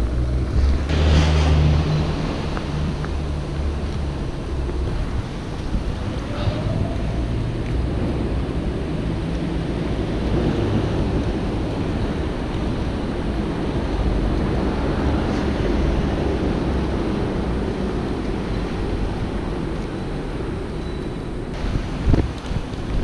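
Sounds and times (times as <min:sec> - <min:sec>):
heavy low rumble: 0:00.0 - 0:20.7
city street noise: 0:00.0 - 0:23.0
rain: 0:00.0 - 0:23.0.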